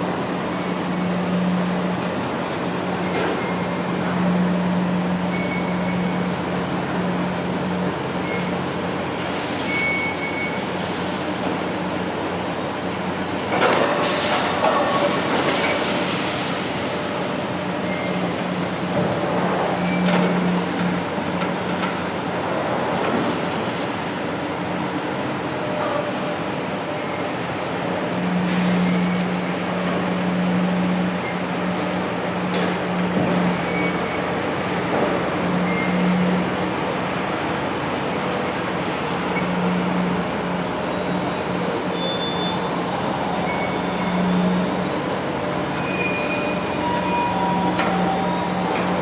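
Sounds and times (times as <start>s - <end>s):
construction machinery engine hum: 0.0s - 49.0s.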